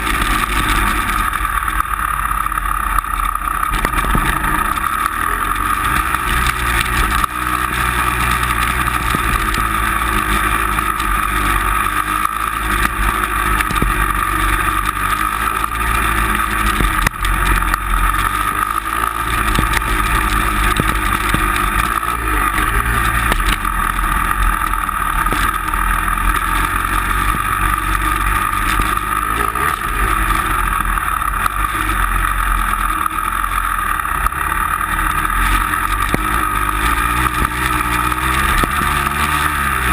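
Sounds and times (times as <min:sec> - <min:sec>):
motor vehicle running: 0:00.0 - 0:39.9.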